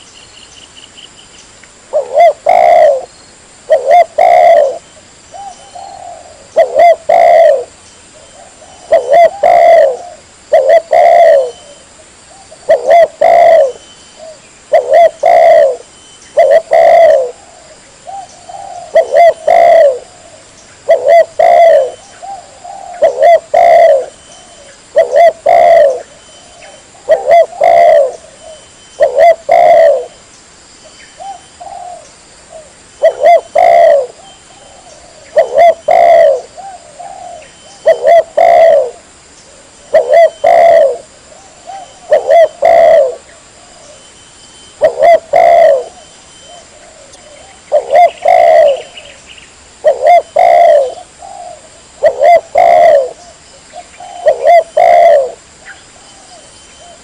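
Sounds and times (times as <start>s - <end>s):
dove cooing: 1.9s - 3.1s, 3.7s - 30.2s, 31.2s - 57.0s.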